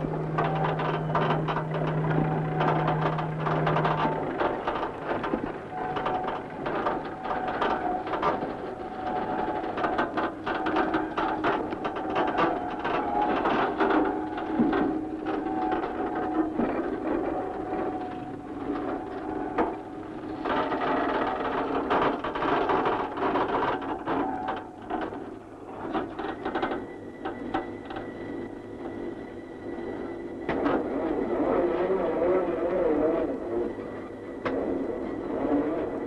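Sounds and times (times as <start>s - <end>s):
crane machinery clattering: 0.0s - 31.3s
thin steady whine: 0.0s - 36.0s.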